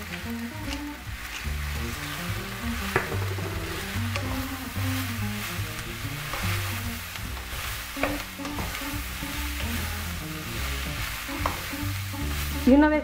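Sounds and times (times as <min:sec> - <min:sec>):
background music with bass: 0:00.0 - 0:13.0
spatula stirring in pan: 0:00.0 - 0:13.0
vegetables sizzling in oil: 0:00.0 - 0:13.0.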